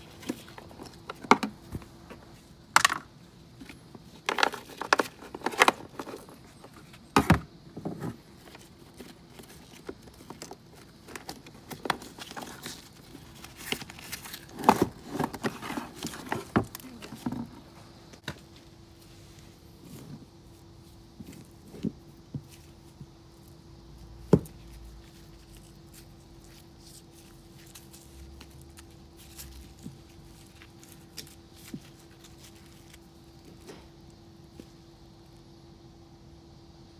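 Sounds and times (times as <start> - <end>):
rustling: 0.0 - 35.4.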